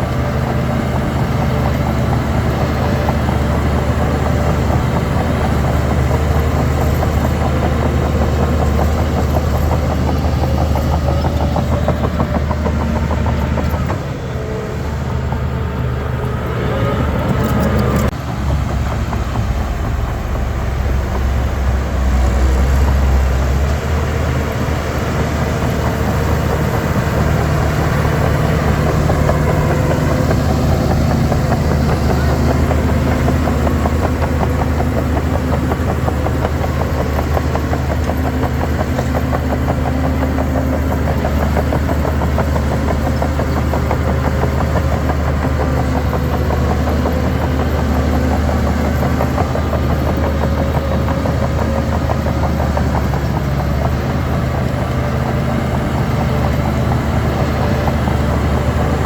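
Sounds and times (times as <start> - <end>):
bulldozer diesel engine drone: 0.0 - 59.0.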